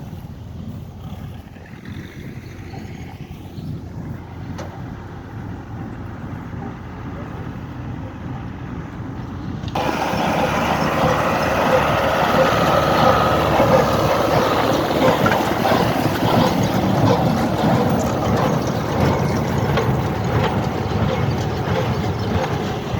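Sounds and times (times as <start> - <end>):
hay baler mechanical clatter: 0.0 - 22.9
tractor diesel engine under load: 0.0 - 22.9.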